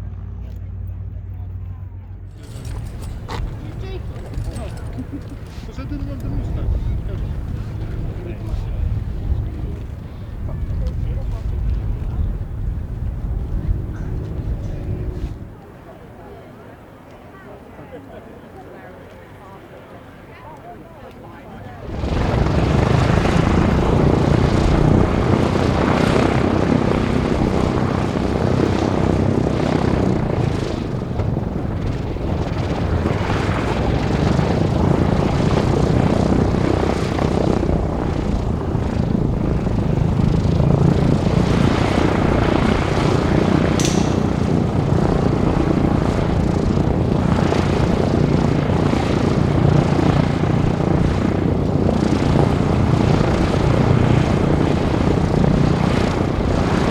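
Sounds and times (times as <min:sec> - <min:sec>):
radial engines propeller drone: 0:00.0 - 0:56.9.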